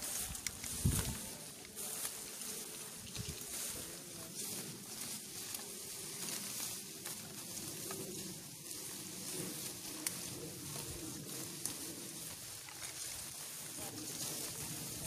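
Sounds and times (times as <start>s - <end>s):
rustling grass and brush: 0.0s - 15.0s
soft footsteps: 0.0s - 15.0s
steady high hiss: 0.0s - 15.0s.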